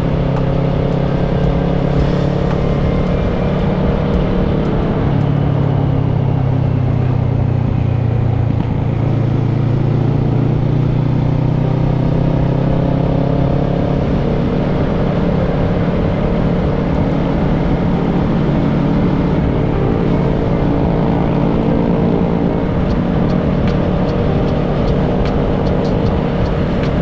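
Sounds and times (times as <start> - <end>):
motorcycle engine cruising: 0.0 - 27.0
wind and road noise: 0.0 - 27.0.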